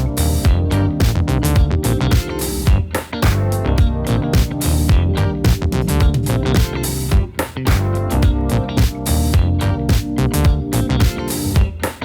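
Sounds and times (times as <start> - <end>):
funk music with guitar and drums: 0.0 - 12.0.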